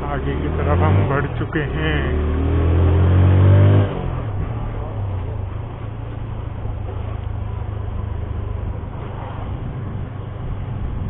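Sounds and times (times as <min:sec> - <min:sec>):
motorcycle engine drone: 0:00.0 - 0:11.0
road and wind rush: 0:00.0 - 0:11.0.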